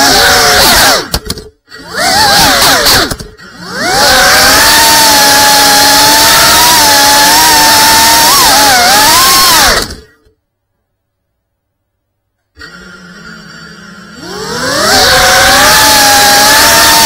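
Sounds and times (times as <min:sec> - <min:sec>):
drone motors whining: 0:00.0 - 0:10.3, 0:12.6 - 0:17.0.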